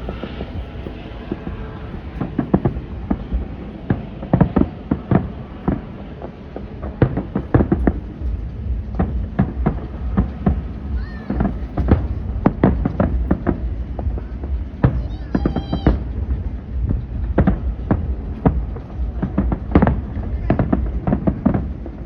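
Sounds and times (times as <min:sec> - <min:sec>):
fireworks bangs and crackles: 0:00.0 - 0:22.0
low rumble: 0:00.0 - 0:22.0.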